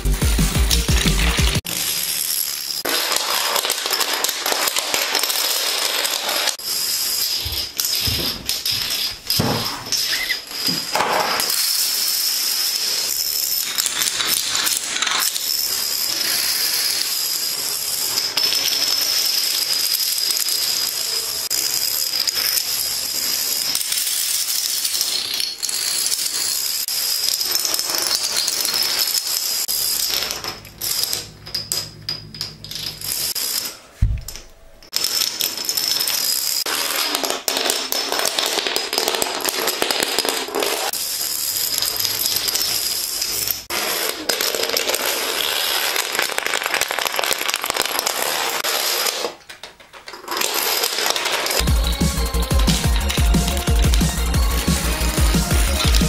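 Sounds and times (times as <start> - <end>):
plastic dominoes toppling clatter: 0.7 - 33.8, 34.8 - 56.0.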